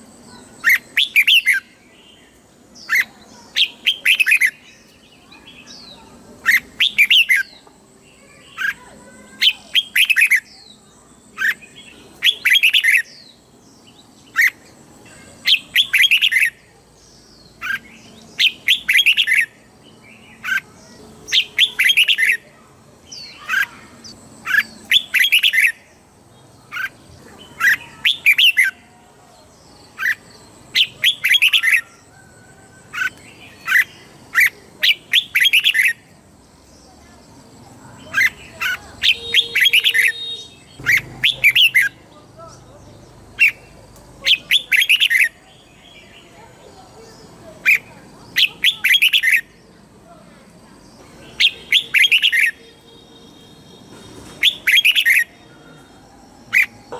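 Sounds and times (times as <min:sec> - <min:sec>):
bird singing warbling phrases: 0:00.0 - 0:56.9.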